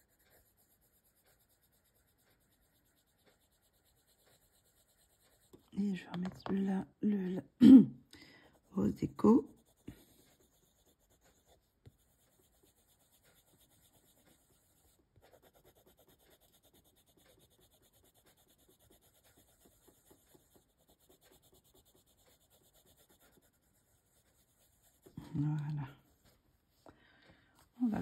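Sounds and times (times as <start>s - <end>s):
pencil scratching on paper: 0.0s - 7.5s, 8.4s - 26.9s.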